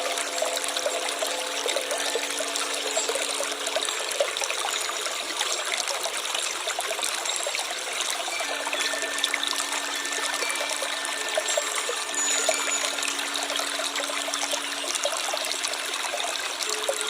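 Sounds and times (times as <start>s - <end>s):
stream water babbling: 0.0s - 17.0s.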